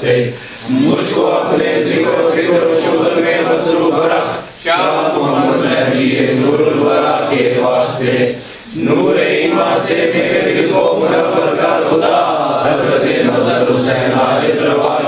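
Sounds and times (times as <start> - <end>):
men chanting a prayer: 0.0 - 15.0.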